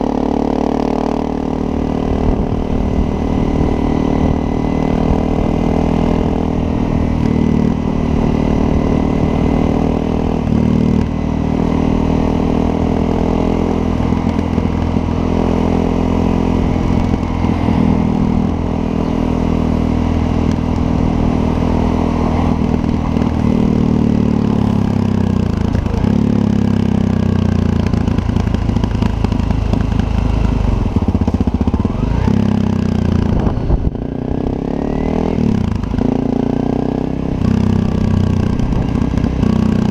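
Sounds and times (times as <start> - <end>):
motorcycle engine running at low revs: 0.0 - 39.9.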